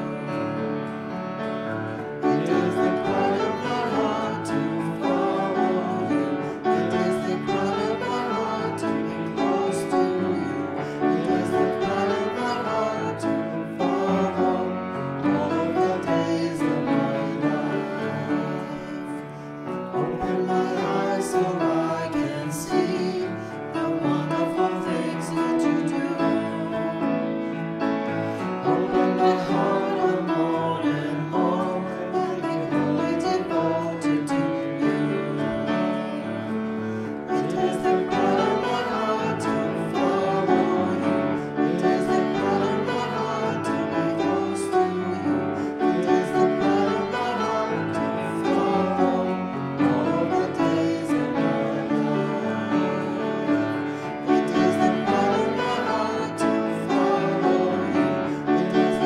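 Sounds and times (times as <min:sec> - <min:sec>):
congregation singing: 0:00.0 - 0:59.0
instrumental accompaniment: 0:00.0 - 0:59.0.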